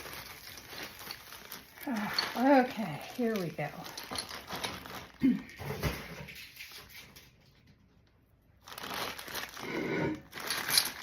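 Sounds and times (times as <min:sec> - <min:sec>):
packing material rustling: 0:00.0 - 0:07.1, 0:08.6 - 0:11.0.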